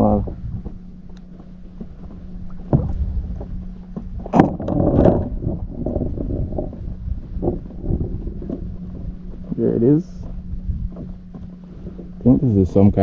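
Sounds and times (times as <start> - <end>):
low hum and rumble: 0.0 - 13.0.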